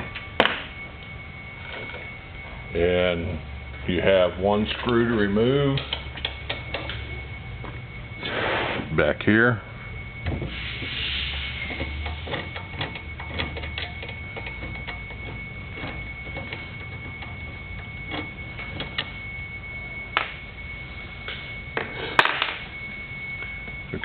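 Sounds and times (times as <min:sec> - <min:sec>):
faint high whine: 0:00.0 - 0:24.0.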